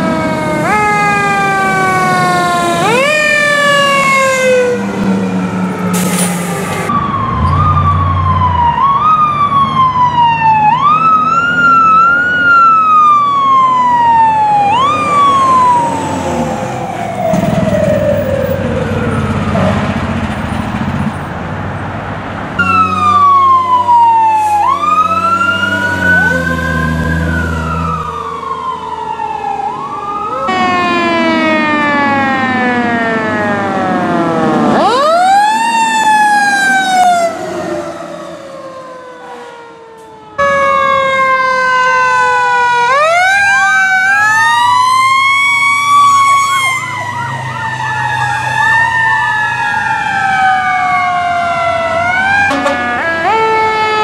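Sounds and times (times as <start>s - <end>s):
fire truck sirens wailing: 0.0s - 54.0s.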